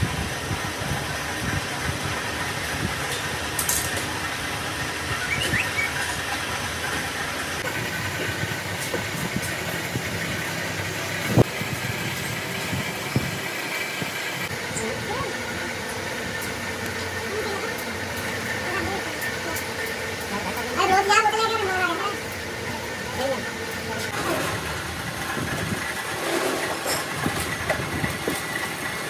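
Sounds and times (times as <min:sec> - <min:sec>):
workshop machine hum: 0:00.0 - 0:29.0.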